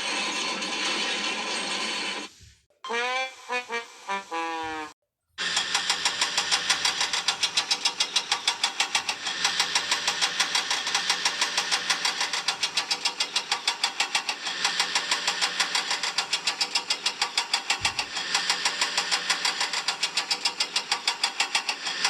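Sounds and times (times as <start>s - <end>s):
cartoon locomotive engine chugging: 0.0s - 22.0s.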